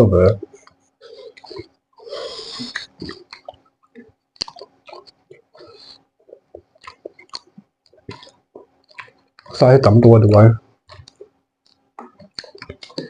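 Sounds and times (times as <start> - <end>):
faint steady hum: 0.0 - 13.0
wet chewing and smacking: 0.4 - 9.6, 10.8 - 13.0.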